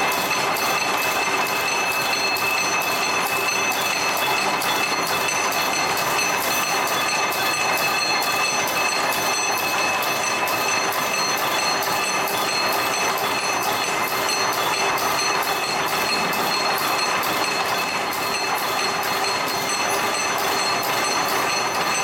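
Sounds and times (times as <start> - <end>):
high machine whine: 0.0 - 22.0
machine metallic clatter: 0.0 - 22.0.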